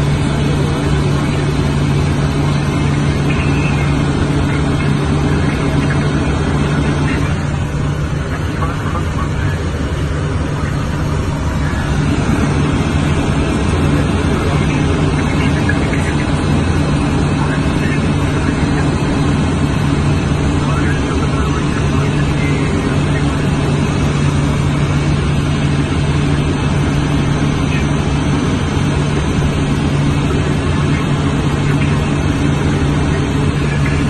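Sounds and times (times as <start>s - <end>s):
jet engine and airflow rush: 0.0s - 34.0s
steady low hum: 0.0s - 34.0s.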